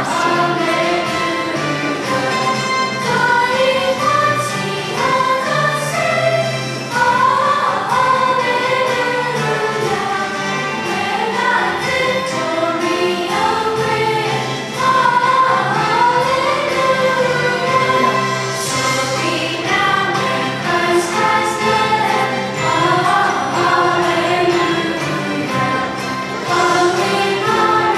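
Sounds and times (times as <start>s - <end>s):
choir singing a hymn: 0.0s - 27.9s
instrumental accompaniment: 0.0s - 27.9s.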